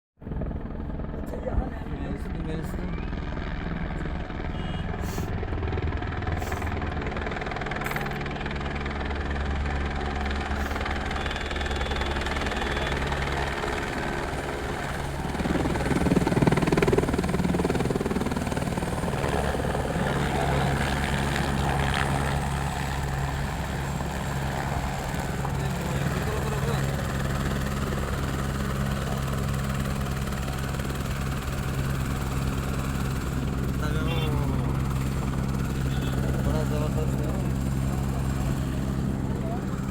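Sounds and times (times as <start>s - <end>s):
helicopter engine and rotor drone: 0.2s - 39.9s.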